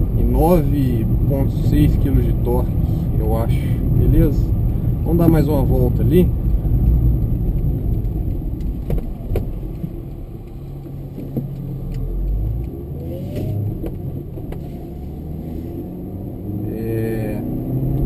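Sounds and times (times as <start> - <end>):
car engine running from inside cabin: 0.0 - 18.0.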